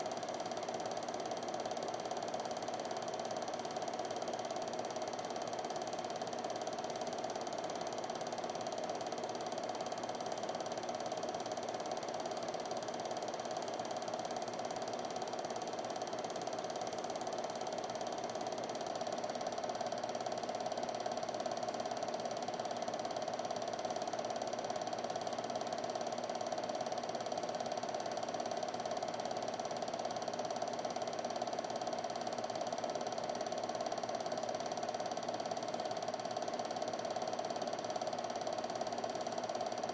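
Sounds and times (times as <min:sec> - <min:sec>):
film projector clatter and hum: 0:00.0 - 0:39.9.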